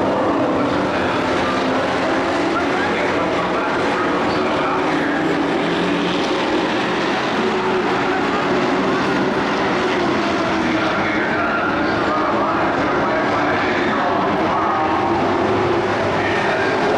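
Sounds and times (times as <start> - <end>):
race truck engines droning: 0.0 - 16.9.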